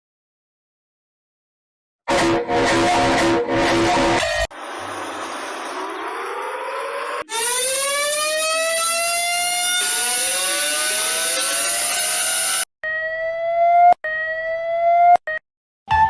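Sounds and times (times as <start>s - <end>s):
second rising siren tone: 2.1s - 15.4s
siren winding up: 2.1s - 15.4s.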